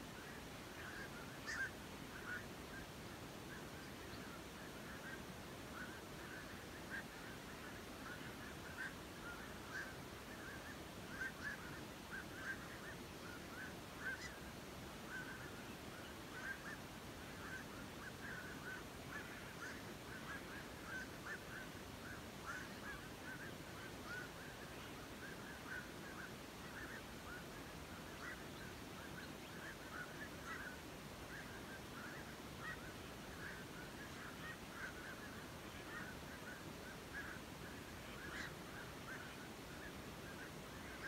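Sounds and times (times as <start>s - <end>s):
waterbirds calling: 0.1s - 41.0s.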